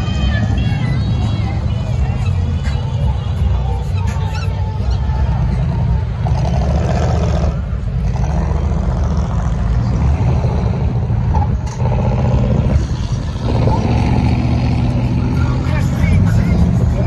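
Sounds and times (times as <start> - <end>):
cars driving slowly past: 0.0 - 17.0
deep engine exhaust rumble: 0.0 - 17.0.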